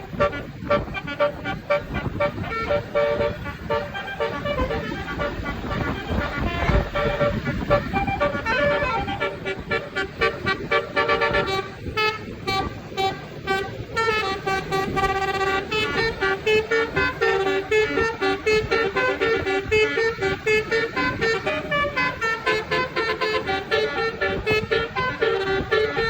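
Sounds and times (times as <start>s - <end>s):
musical air horn tune: 0.0s - 26.0s.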